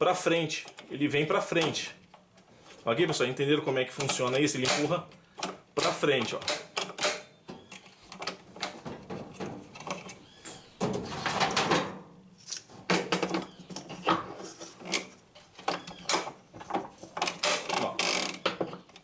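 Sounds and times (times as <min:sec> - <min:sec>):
plastic and metal parts clattering: 0:00.5 - 0:19.0.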